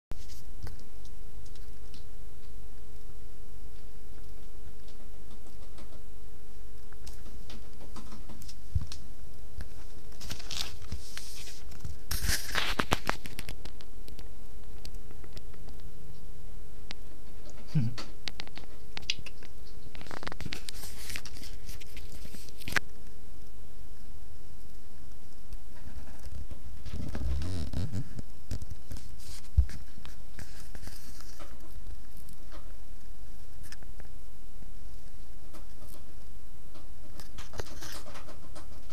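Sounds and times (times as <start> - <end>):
rustling: 0.1 - 23.2, 24.6 - 38.9
steady low hum: 0.1 - 38.9
kitten licking and grooming: 0.2 - 24.0, 24.6 - 38.9.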